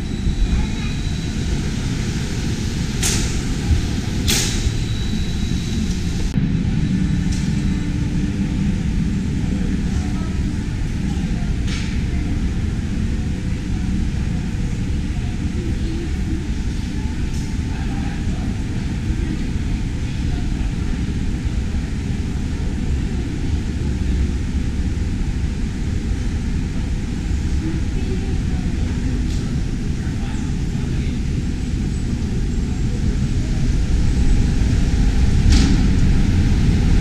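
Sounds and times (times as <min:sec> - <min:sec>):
faint voices: 0:00.0 - 0:37.0
flume ride machinery rumble: 0:00.0 - 0:37.0.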